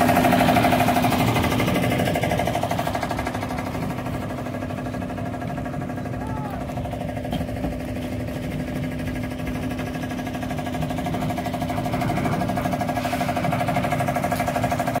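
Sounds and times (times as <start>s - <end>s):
concrete mixer engine pulsing: 0.0s - 15.0s.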